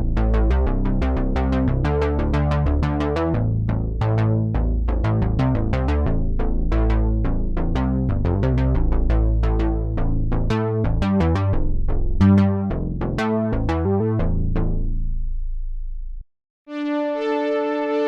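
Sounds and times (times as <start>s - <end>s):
synthesizer plucked notes: 0.0s - 15.0s
synth bass line: 0.0s - 18.0s.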